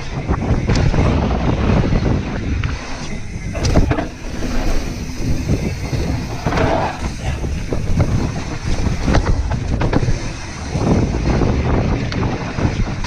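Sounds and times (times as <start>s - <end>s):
bike rattling and clunking: 0.0s - 13.0s
tyres on loose gravel: 0.0s - 13.0s
wind buffeting microphone: 0.0s - 13.0s.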